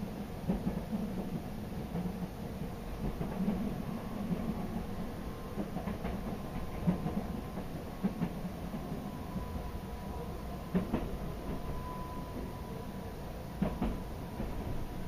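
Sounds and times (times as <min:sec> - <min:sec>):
streetcar wheels rumbling on rail: 0:00.0 - 0:15.0.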